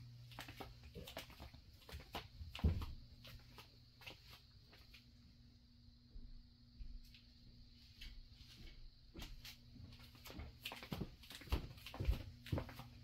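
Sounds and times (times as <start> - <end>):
footsteps on basement floor: 0.0 - 5.2, 6.0 - 13.0
low electrical hum: 0.0 - 13.0.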